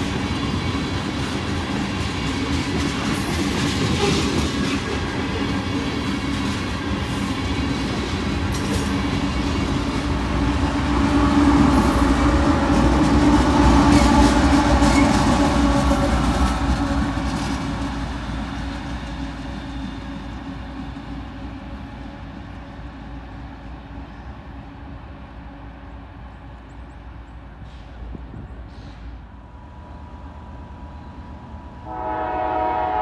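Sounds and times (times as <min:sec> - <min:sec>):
diesel locomotive engine drone: 0:00.0 - 0:33.0
train wheels rumbling and clattering: 0:00.0 - 0:33.0.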